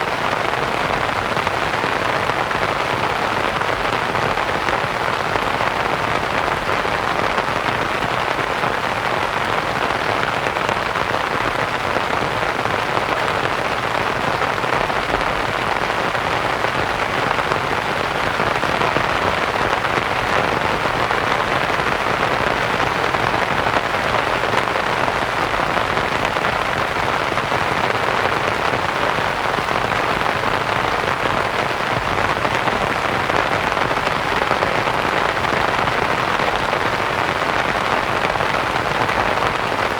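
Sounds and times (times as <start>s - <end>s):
rain pattering on a tent: 0.0s - 39.9s.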